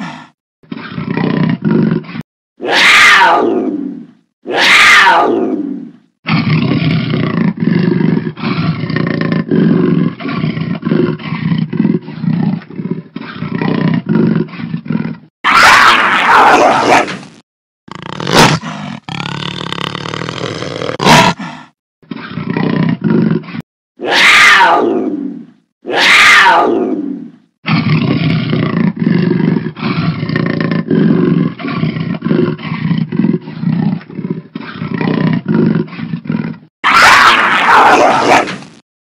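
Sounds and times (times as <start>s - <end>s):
big cat roaring: 0.7s - 17.2s, 17.9s - 38.7s
big cat growling: 0.7s - 17.3s, 17.9s - 38.7s.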